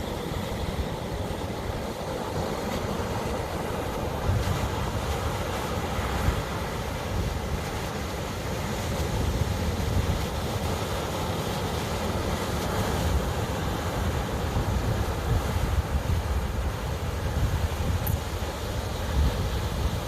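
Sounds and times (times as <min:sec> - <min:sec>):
wind rumbling on microphone: 0:00.0 - 0:11.8, 0:12.4 - 0:20.0
ocean surf washing: 0:00.0 - 0:20.0.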